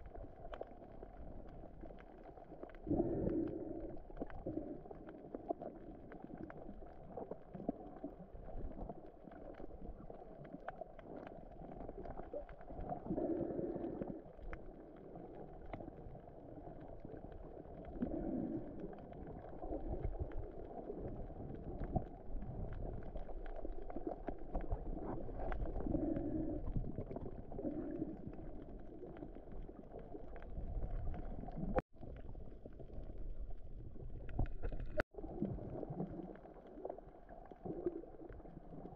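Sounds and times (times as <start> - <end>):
faint underwater clicks and crackles: 0.0 - 38.9
underwater water rush: 0.0 - 38.9.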